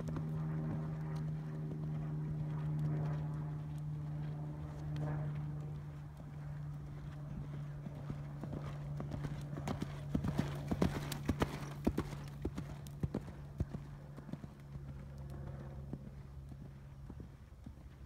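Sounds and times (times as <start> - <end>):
horse hoofbeats on sand: 0.0 - 18.0.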